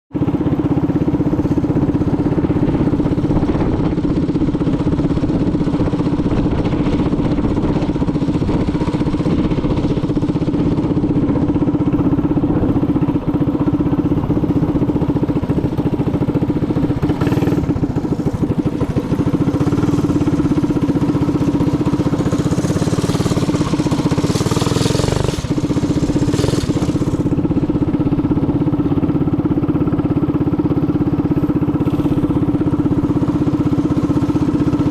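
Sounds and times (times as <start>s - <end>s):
minibike engine running: 0.2s - 34.9s.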